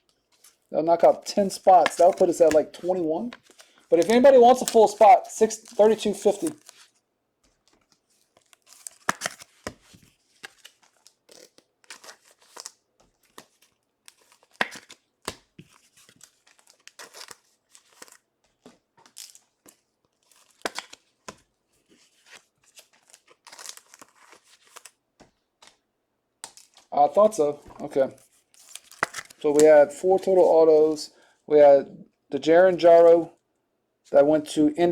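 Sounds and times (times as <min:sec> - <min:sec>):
plastic packaging crinkling: 0:00.3 - 0:25.0, 0:26.4 - 0:30.5.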